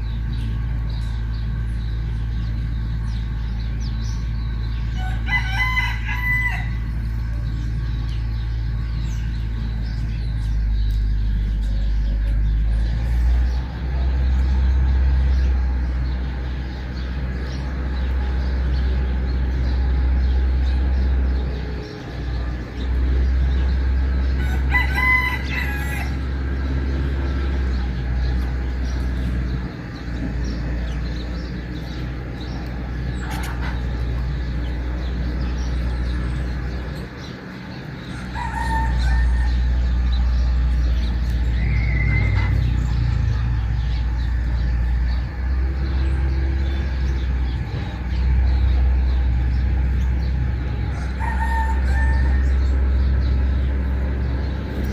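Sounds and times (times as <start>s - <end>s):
loud ringing bird calls: 0.0s - 54.9s
steady low rumble: 0.0s - 54.9s.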